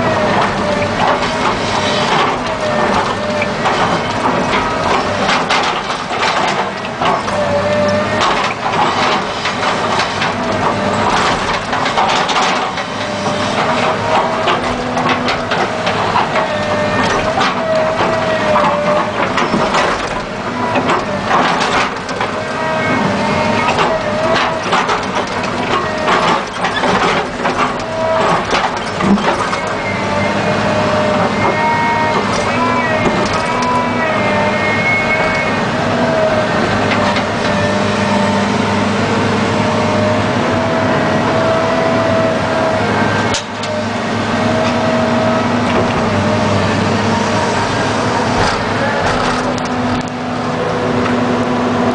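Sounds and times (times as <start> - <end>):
excavator diesel engine: 0.0 - 51.9
hydraulic whine: 0.0 - 51.9.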